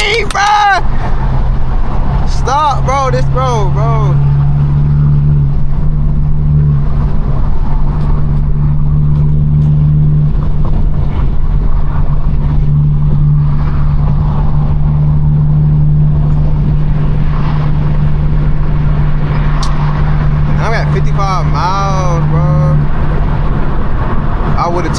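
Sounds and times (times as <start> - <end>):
car exhaust droning: 0.0 - 24.9
road and wind noise: 0.0 - 24.9.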